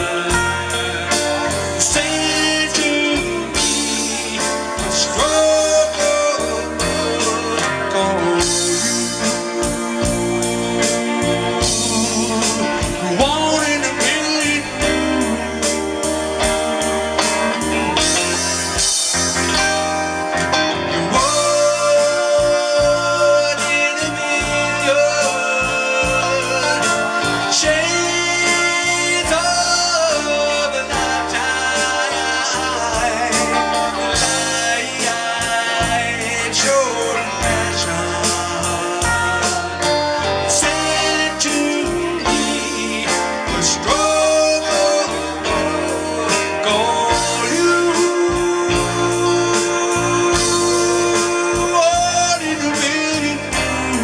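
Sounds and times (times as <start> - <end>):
drum kit: 0.0 - 54.0
electric guitar: 0.0 - 54.0
electric keyboard: 0.0 - 54.0.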